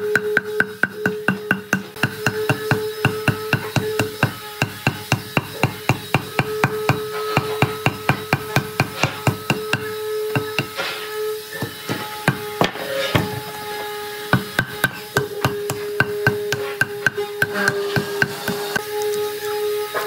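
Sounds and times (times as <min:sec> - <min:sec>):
hammer striking log bark: 0:00.0 - 0:10.8, 0:11.6 - 0:13.4, 0:14.3 - 0:18.8.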